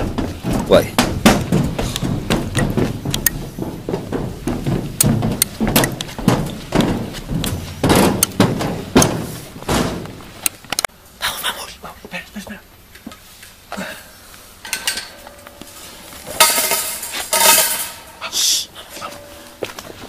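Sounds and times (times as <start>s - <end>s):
footsteps: 0.0s - 10.9s, 14.3s - 20.0s.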